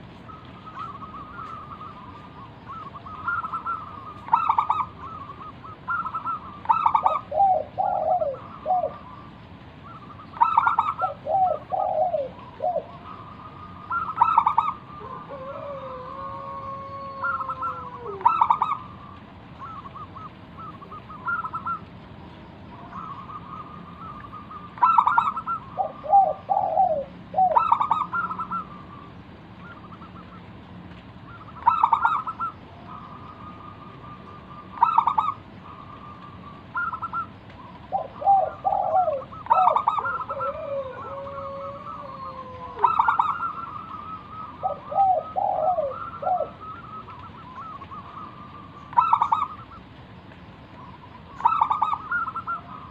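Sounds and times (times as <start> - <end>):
dove cooing song: 0.0 - 22.0, 22.7 - 50.0, 50.6 - 52.9.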